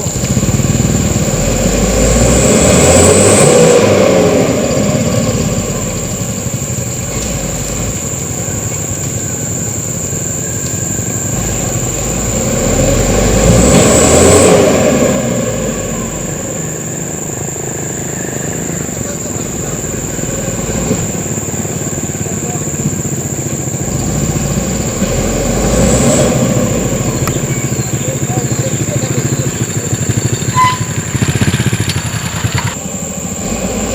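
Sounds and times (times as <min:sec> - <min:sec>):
truck diesel engine revving: 0:00.0 - 0:33.9.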